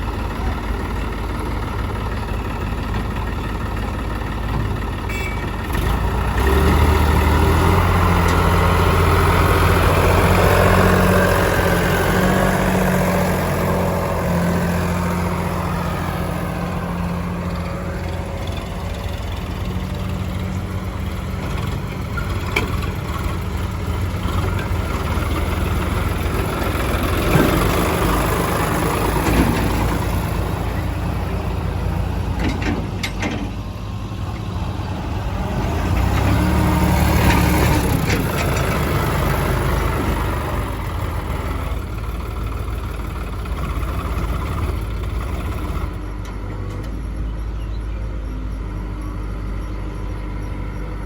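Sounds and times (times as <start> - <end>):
heavy diesel engine under load: 0.0 - 51.0.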